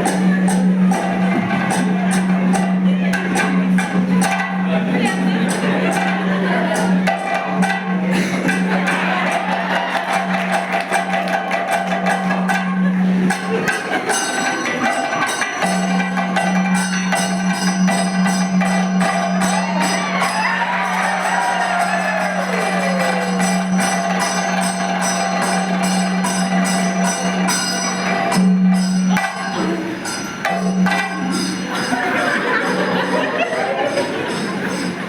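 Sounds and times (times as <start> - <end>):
drumming: 0.0 - 35.0
fast metallic cymbal strikes: 0.0 - 35.0.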